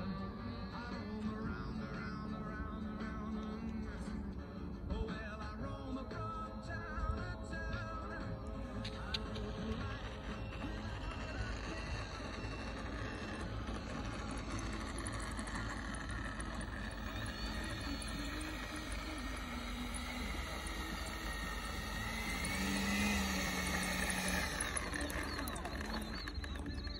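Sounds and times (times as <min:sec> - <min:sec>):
electric ducted fan whining: 0:00.0 - 0:26.9.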